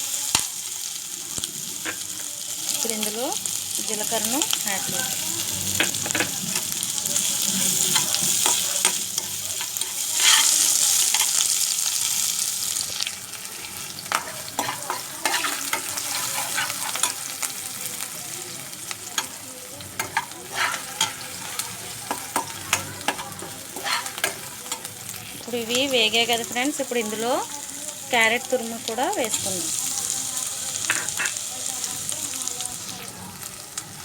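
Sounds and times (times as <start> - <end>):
spices sizzling in hot oil: 0.0 - 34.0.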